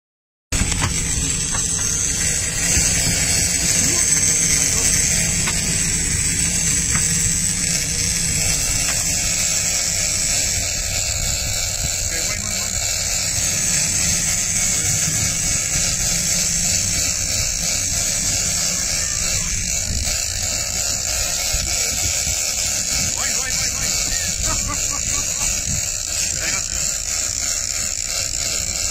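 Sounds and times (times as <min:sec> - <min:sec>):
low rumble: 0:00.6 - 0:28.8
fishing reel drag screaming: 0:00.6 - 0:28.9.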